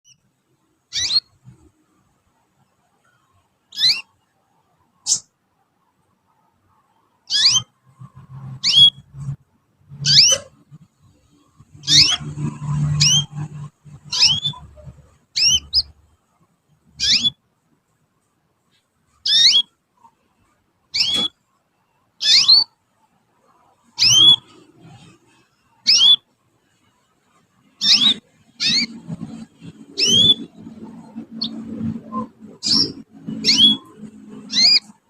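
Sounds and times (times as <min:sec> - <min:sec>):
canary chirping: 0:00.0 - 0:17.5, 0:18.7 - 0:35.0.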